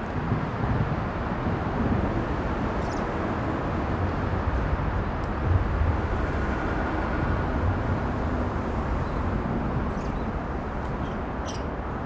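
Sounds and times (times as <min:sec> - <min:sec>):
low outdoor background rumble: 0:00.0 - 0:12.0.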